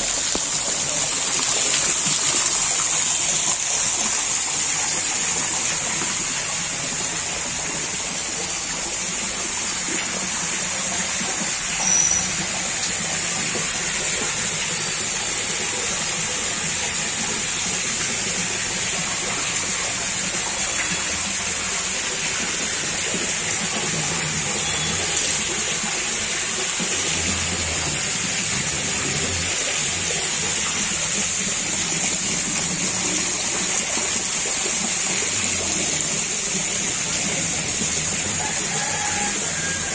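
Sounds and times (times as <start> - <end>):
water gushing from a pipe: 0.0 - 39.9.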